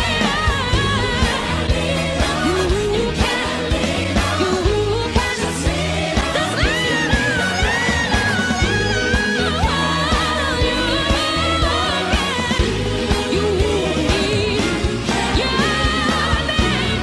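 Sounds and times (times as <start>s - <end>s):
band playing bass and drums: 0.0s - 17.0s
woman singing a power ballad: 0.0s - 17.0s.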